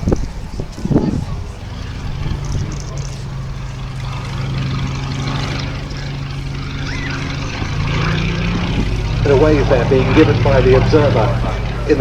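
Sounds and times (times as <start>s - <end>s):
propeller plane engine in flight: 0.0s - 12.0s.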